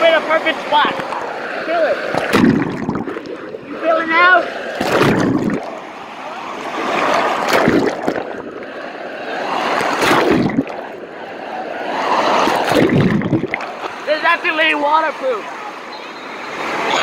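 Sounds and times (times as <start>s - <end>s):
whitewater rushing and splashing: 0.0s - 17.0s.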